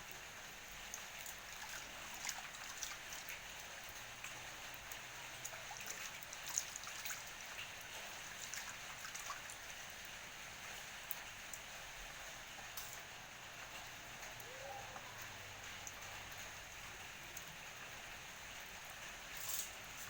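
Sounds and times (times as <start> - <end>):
water trickling and dripping: 0.0 - 20.0.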